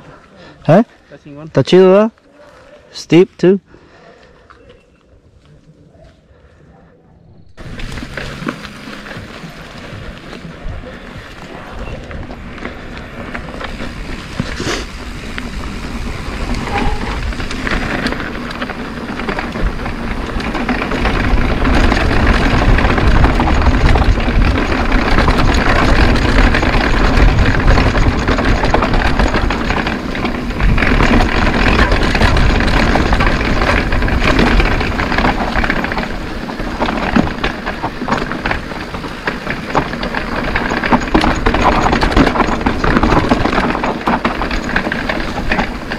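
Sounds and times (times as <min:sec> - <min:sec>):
bike tyres rattling over dirt: 0:07.4 - 0:45.9
wind buffeting microphone: 0:07.4 - 0:45.9.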